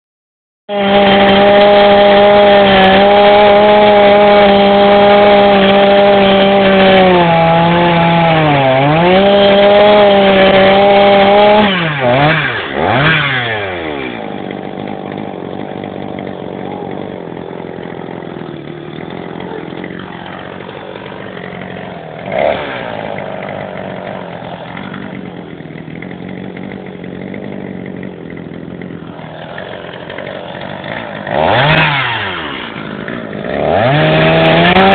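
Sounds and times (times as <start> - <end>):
chainsaw cutting wood: 0.7 - 34.9.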